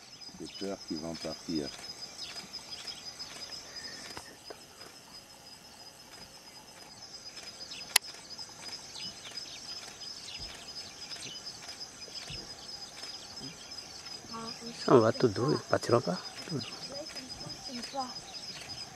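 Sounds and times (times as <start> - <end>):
insects chirping: 0.0 - 18.9.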